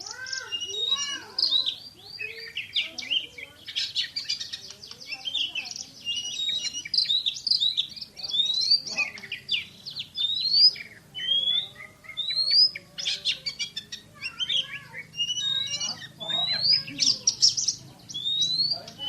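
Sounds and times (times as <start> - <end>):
bird singing rising whistles: 0.0 - 19.0.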